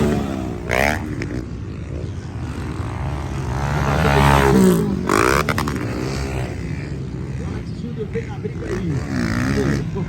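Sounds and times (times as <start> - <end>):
motorcycle engines revving: 0.0 - 10.0.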